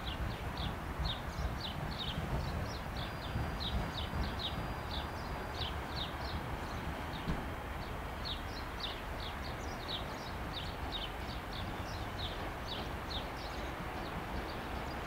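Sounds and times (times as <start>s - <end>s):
small songbird chirping: 0.0s - 15.0s.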